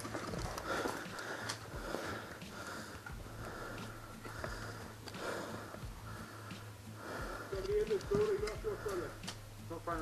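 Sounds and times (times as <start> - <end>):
person breathing heavily: 0.2 - 9.3.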